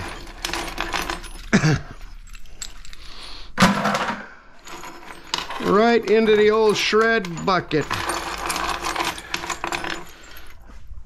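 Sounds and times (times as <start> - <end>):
small metal parts clinking: 0.0 - 10.8.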